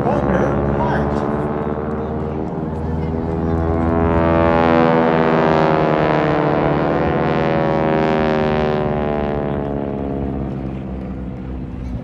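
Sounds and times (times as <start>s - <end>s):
propeller planes droning past: 0.0s - 12.0s.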